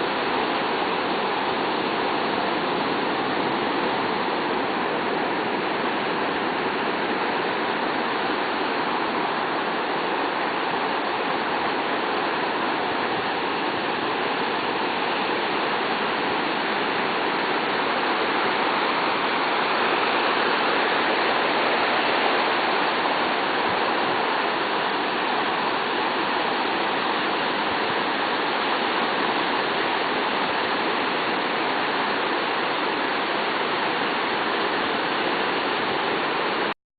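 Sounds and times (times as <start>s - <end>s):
ocean waves breaking on beach: 0.0s - 36.7s.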